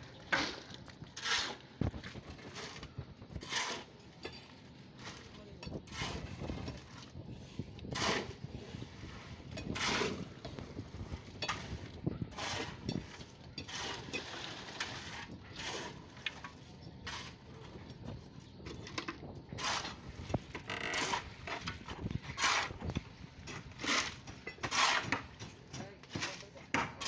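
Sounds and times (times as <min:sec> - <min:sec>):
wet concrete scraping: 0:00.0 - 0:17.8, 0:19.6 - 0:27.0.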